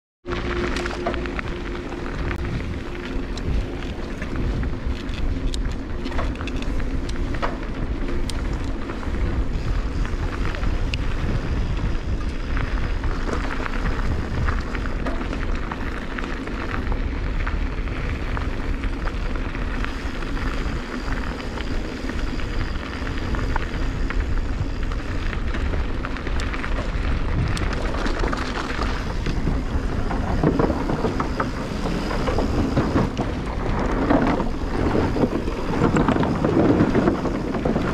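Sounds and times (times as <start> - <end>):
tyres on wooden boardwalk: 0.2 - 37.9
wind rumble on microphone: 0.2 - 37.9
tyres crunching on gravel: 0.3 - 37.9.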